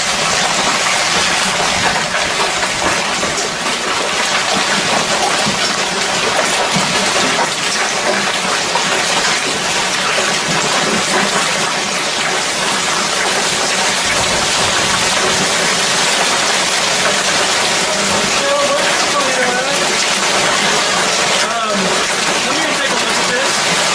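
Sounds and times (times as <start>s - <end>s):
heavy rain and hail pelting: 0.0s - 23.9s.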